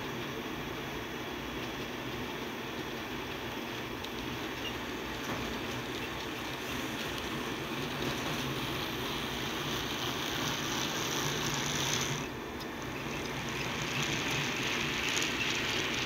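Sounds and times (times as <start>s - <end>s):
model train motor and wheels: 0.0s - 16.0s.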